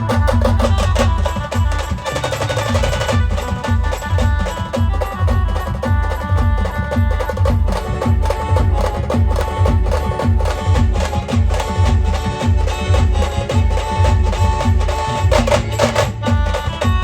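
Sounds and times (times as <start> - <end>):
band playing dance tune: 0.0 - 17.0.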